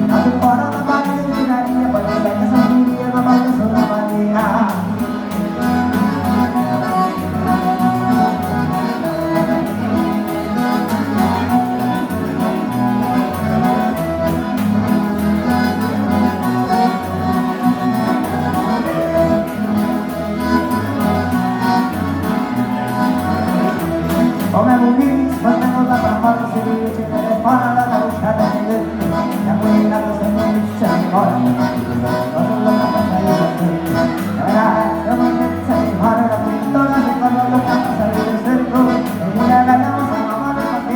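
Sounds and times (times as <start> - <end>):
button accordion: 0.0 - 40.9
guitar: 0.0 - 40.9.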